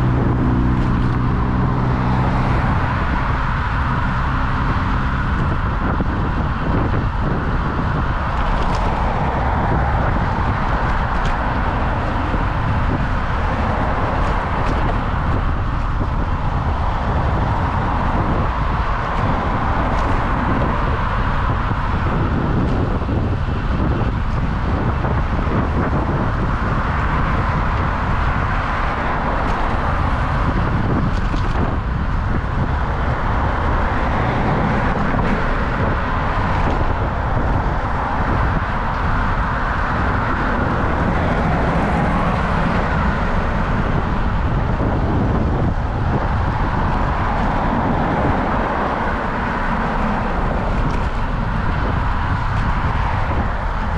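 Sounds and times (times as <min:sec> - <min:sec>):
car traffic passing: 0:00.0 - 0:53.9
wind rushing on microphone: 0:00.0 - 0:53.9.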